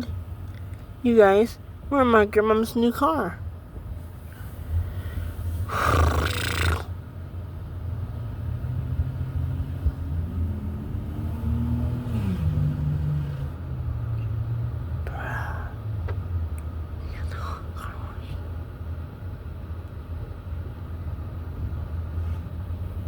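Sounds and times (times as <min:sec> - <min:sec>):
low rumble inside car wash: 0:00.0 - 0:23.0.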